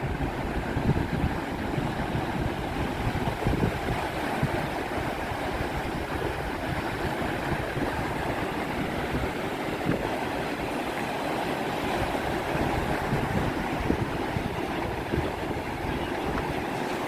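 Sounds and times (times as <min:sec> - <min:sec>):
waves breaking and washing in: 0:00.0 - 0:17.0.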